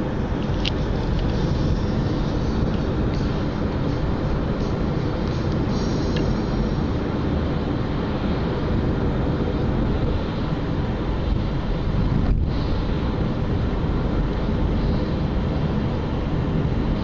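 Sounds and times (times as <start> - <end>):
car road noise rumble: 0.0 - 17.0
road hiss: 0.0 - 17.0.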